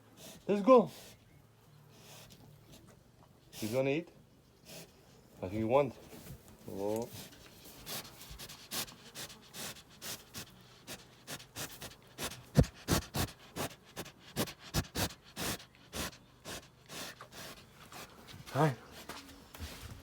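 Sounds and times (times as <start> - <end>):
animal sniffing: 0.0 - 1.3, 1.9 - 3.9, 4.6 - 5.4, 6.0 - 20.0.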